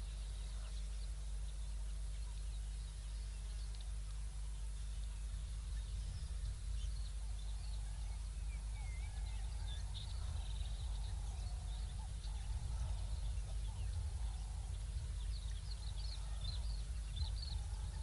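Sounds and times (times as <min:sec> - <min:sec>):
birds chirping and calling: 0:00.0 - 0:18.0
steady low rumble: 0:00.0 - 0:18.0.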